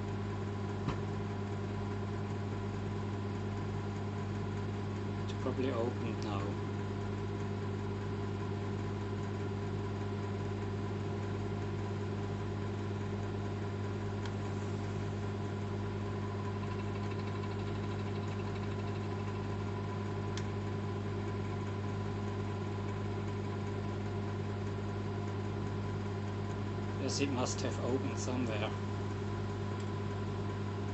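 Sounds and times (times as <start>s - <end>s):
microwave oven humming: 0.0s - 30.9s.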